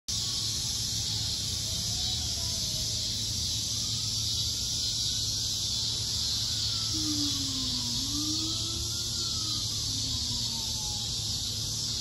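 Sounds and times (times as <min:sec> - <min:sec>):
high-pitched insect chorus: 0:00.1 - 0:12.0.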